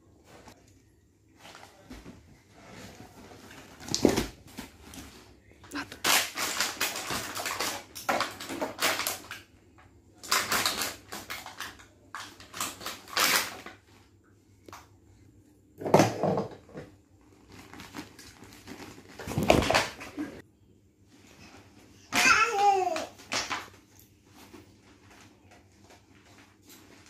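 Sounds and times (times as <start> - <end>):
plastic toys rustling and knocking: 1.4 - 14.0, 15.8 - 20.4, 21.2 - 27.0.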